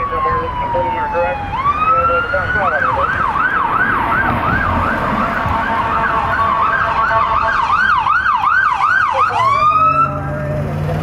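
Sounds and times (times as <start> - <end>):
police siren yelping: 0.0 - 10.7
traffic rumble: 0.0 - 11.0.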